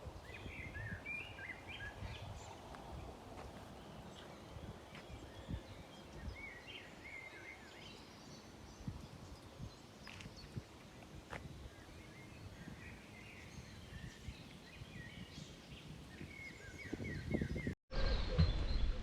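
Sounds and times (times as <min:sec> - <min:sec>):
small birds chirping: 0:00.0 - 0:17.8.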